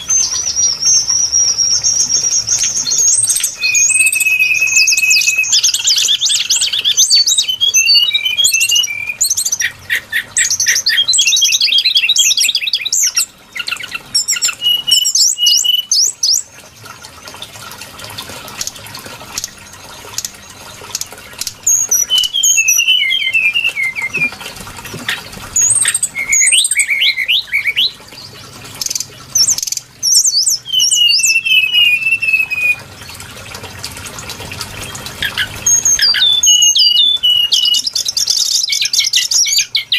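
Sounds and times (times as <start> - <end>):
bird singing rapid trills: 0.0 - 16.6, 18.6 - 33.2, 34.8 - 39.9.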